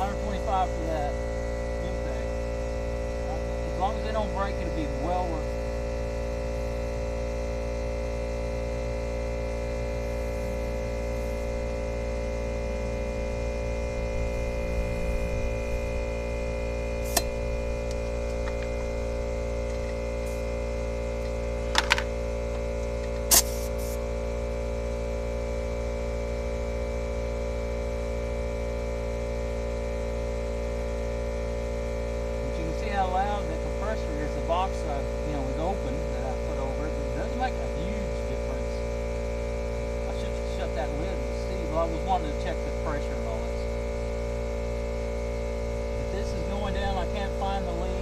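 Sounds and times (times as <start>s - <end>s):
air compressor humming: 0.0s - 48.0s.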